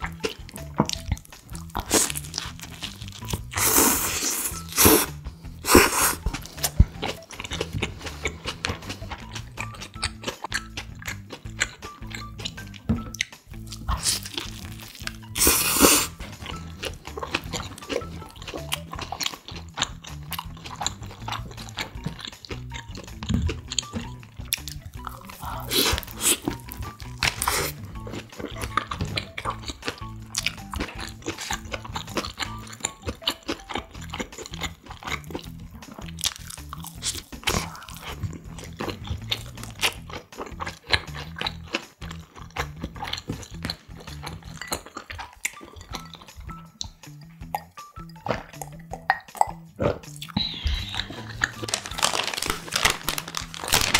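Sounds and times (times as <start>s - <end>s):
soft background music: 0.0s - 53.9s
wet chewing with mouth clicks: 0.0s - 53.9s.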